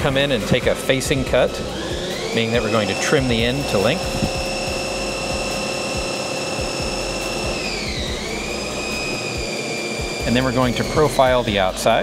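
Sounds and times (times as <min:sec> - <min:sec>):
lathe cutting whine: 0:00.0 - 0:12.0.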